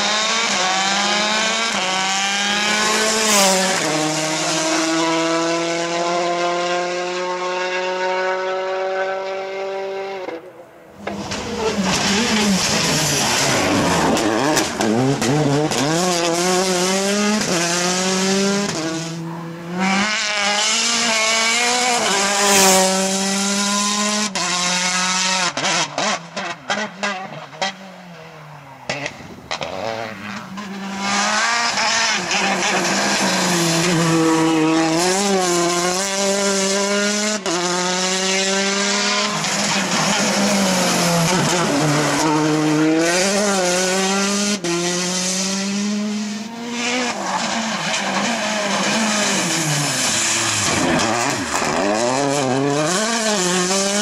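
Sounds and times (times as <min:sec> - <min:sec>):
rally car engine at full throttle: 0:00.0 - 0:54.0.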